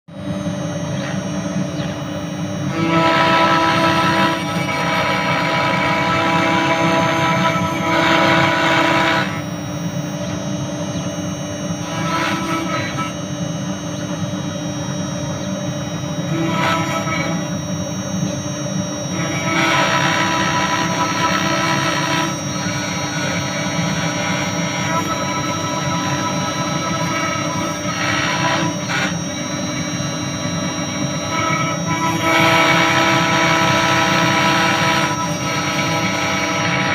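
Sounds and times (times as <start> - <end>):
cnc router whining: 0.1 - 36.9
router bit cutting: 0.7 - 36.9.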